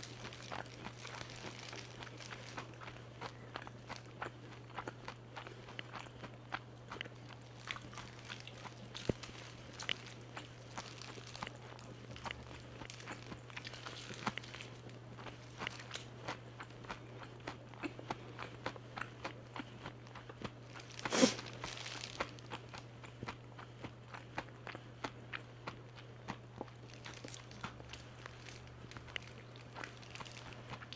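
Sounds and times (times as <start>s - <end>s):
crunching fried chicken: 0.0s - 30.9s.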